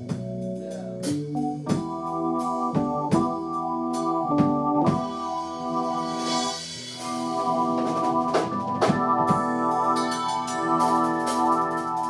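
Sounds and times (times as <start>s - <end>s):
drum kit strokes: 0.0s - 12.0s
organ chords on keyboard: 0.0s - 12.0s.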